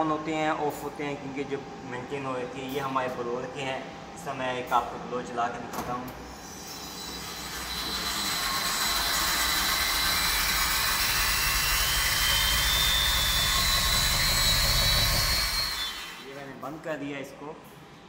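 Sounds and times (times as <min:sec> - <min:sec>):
air blower humming and whining: 0:00.0 - 0:18.0.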